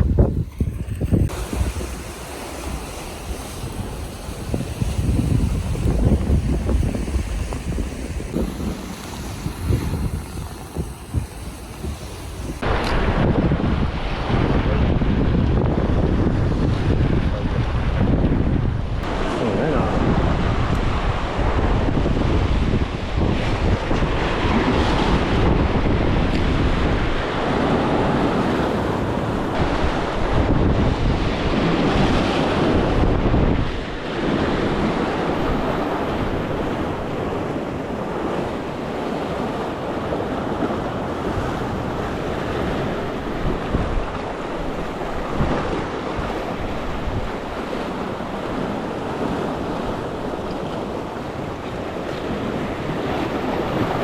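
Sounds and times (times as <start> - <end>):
sea waves washing on shore: 0.0 - 54.0
wind buffeting microphone: 0.0 - 54.0.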